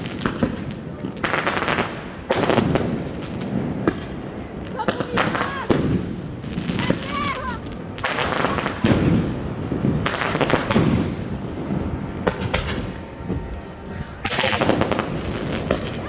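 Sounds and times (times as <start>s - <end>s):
fireworks bangs and crackles: 0.0s - 16.0s
low firework booms: 0.0s - 16.0s.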